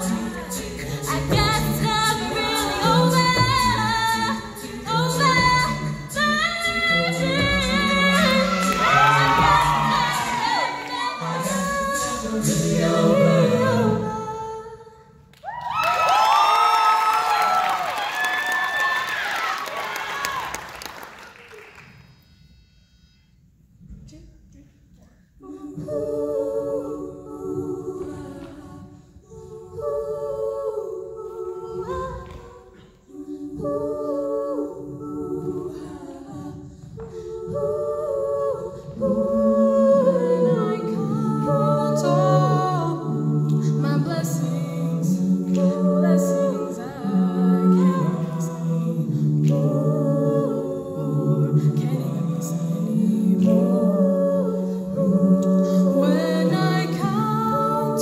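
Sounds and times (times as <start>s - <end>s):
a cappella group singing: 0.0s - 20.0s, 24.9s - 58.0s.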